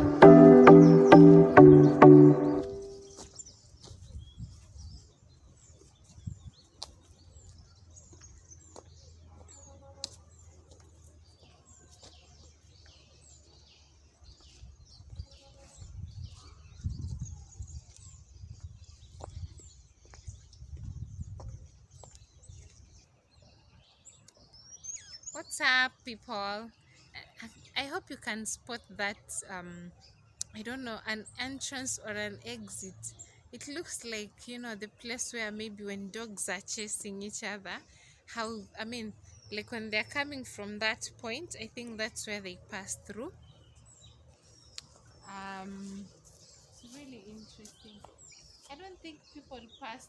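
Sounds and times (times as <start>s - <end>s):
birds chirping faintly: 0.0s - 50.0s.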